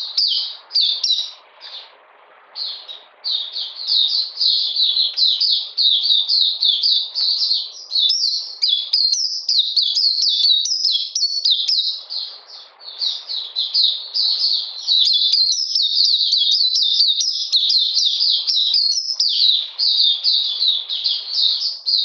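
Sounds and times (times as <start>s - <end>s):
bird twittering song: 0.0s - 2.0s, 2.6s - 22.0s.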